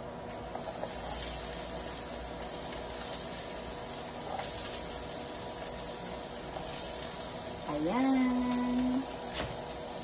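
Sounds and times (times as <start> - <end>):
garlic and onion sizzling in oil: 0.0 - 10.0.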